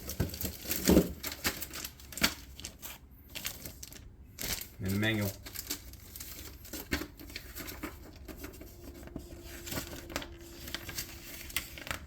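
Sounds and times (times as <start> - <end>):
faint steady hum: 0.0 - 12.0
packaging crinkling and rustling: 0.0 - 12.0.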